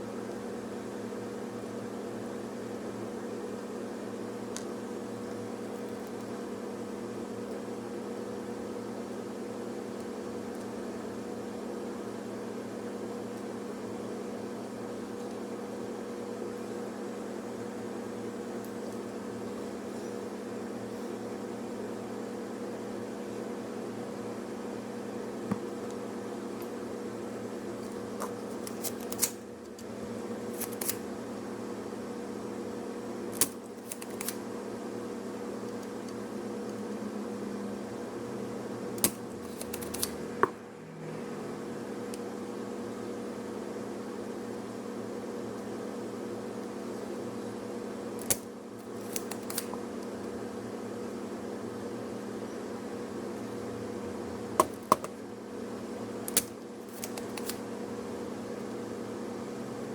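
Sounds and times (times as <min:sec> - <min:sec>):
electrical hum of equipment: 0:00.0 - 0:59.9.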